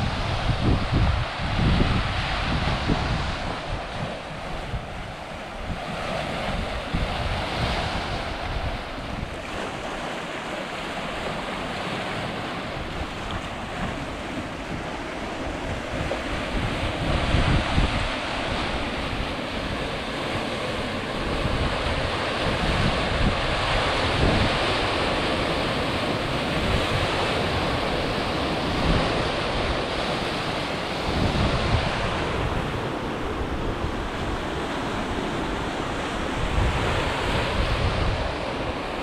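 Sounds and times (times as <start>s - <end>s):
sea surf washing on shore: 0.0s - 39.0s
wind buffeting microphone: 0.0s - 39.0s.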